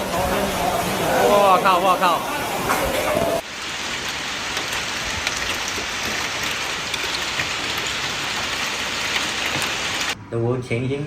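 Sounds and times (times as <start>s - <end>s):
heavy rain pouring: 0.0s - 10.2s.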